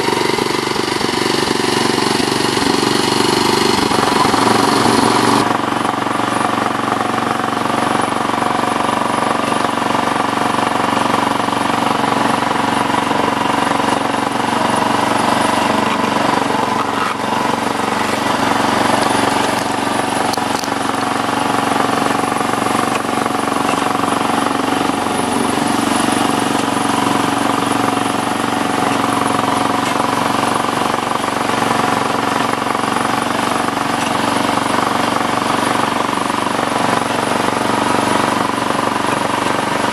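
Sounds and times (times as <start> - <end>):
small locomotive engine running: 0.0 - 39.9
wheels rattling on rails: 0.0 - 39.9.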